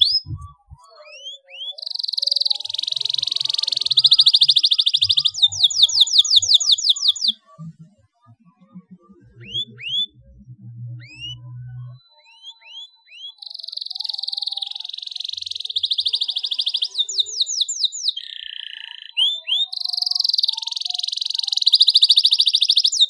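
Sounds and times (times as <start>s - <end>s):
canary singing: 0.0s - 7.7s, 9.3s - 10.2s, 10.9s - 23.0s.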